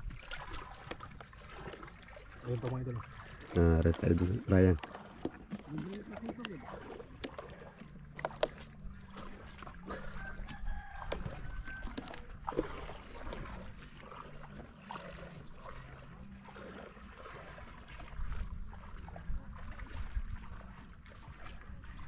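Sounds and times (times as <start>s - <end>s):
water lapping at shoreline: 0.0s - 22.0s.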